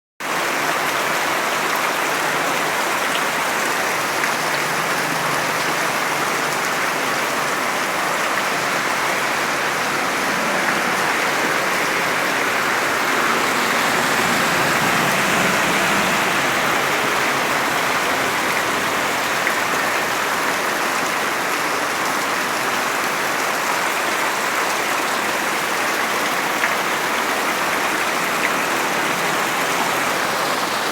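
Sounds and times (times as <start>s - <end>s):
heavy rain falling: 0.2s - 30.9s.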